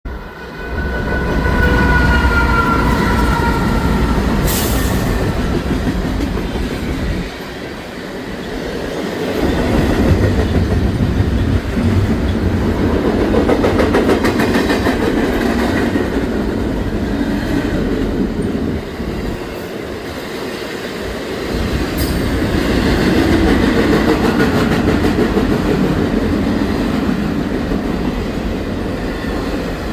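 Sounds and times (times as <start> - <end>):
freight train rumbling past: 0.1 - 29.9.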